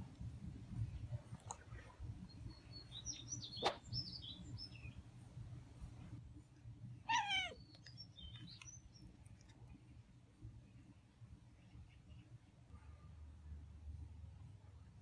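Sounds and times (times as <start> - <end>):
songbirds chirping: 0.5 - 13.4.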